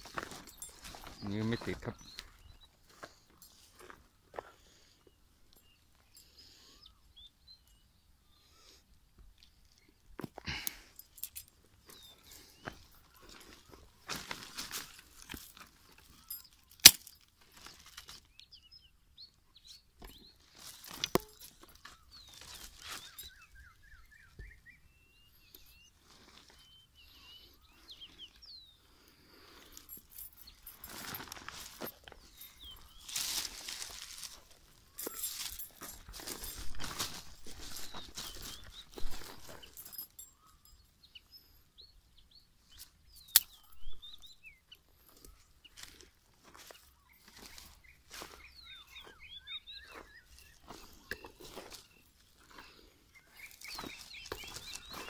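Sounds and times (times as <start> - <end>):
footsteps in dry stubble: 0.0 - 6.2, 9.2 - 18.5, 20.1 - 40.9, 42.7 - 55.0
small birds chirping: 0.0 - 55.0.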